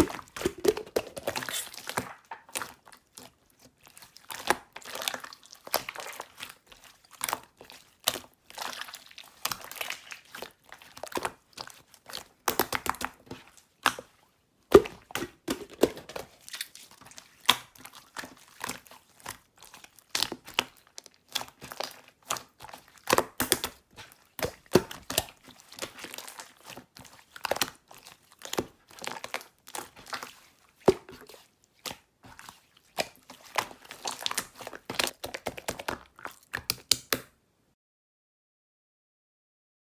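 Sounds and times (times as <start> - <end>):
slime squeezed crackling: 0.0 - 13.1, 14.8 - 37.2.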